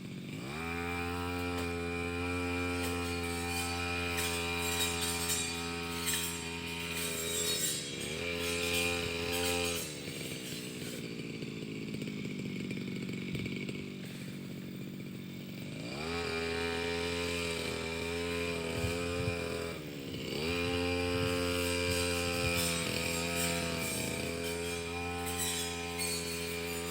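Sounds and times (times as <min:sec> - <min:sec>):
brush cutter engine revving: 0:00.0 - 0:26.9.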